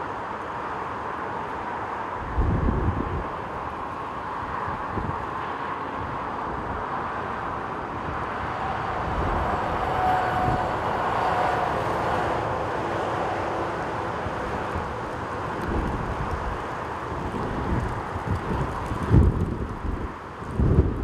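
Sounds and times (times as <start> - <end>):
jet airliner engine whine: 0.0 - 21.0
wind buffeting microphone: 2.2 - 3.5, 4.5 - 5.4, 6.0 - 21.0.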